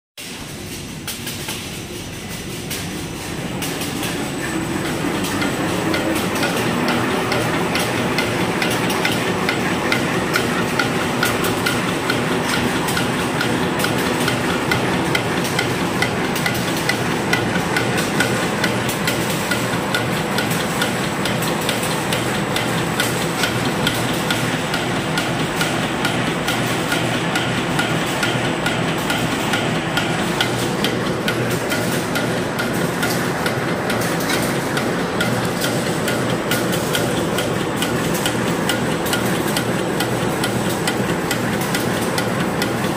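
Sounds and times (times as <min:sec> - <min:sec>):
machine rapid mechanical clatter: 0:00.2 - 0:42.9.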